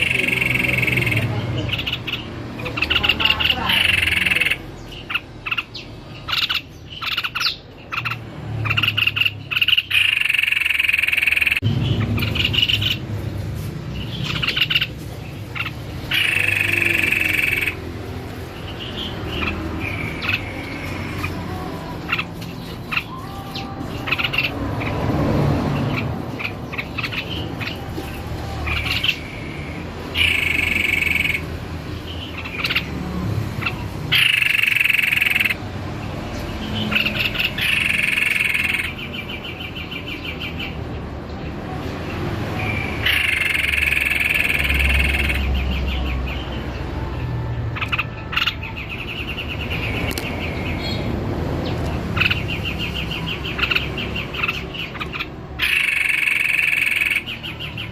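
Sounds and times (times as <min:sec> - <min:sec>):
bird singing buzzy phrases: 0:00.0 - 0:57.9.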